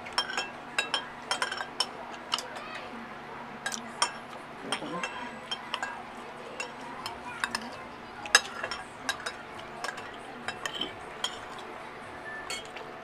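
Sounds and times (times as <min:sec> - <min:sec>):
cutlery and dishes clinking: 0:00.0 - 0:02.7, 0:03.6 - 0:11.7, 0:12.5 - 0:12.8.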